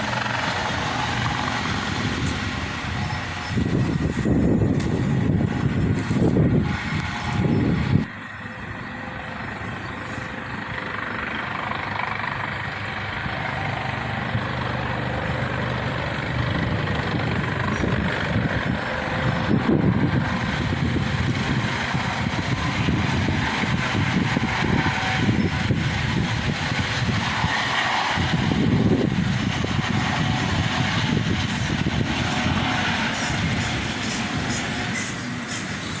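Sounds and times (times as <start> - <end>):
helicopter flying overhead: 0.0 - 36.0.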